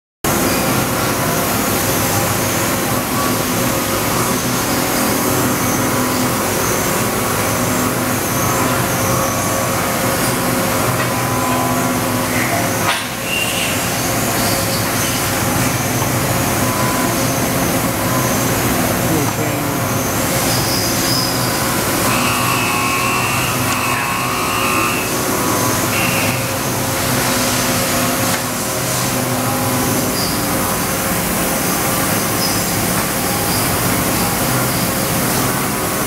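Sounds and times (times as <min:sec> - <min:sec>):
machining center humming: 0:00.3 - 0:36.0.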